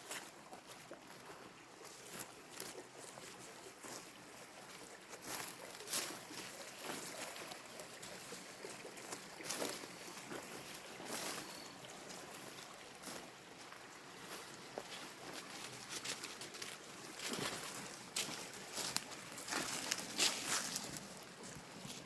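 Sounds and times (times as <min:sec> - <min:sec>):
creek water running: 0:00.0 - 0:22.0.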